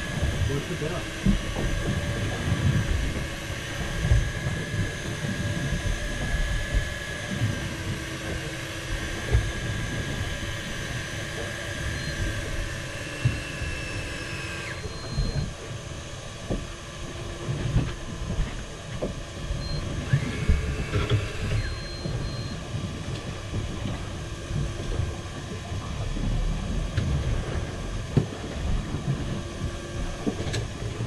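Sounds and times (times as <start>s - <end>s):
boat engine whining: 0.0s - 31.0s.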